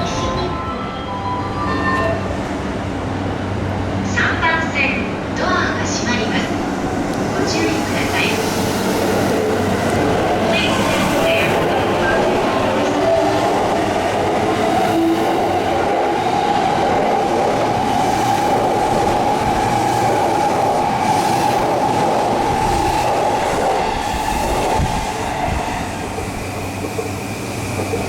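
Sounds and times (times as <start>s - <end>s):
electric train running past: 0.0s - 28.0s.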